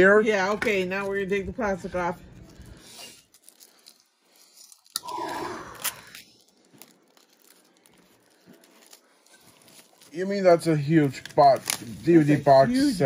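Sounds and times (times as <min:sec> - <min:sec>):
plastic wrap crinkling: 0:02.3 - 0:13.0
shrink wrap ripping: 0:02.4 - 0:13.0.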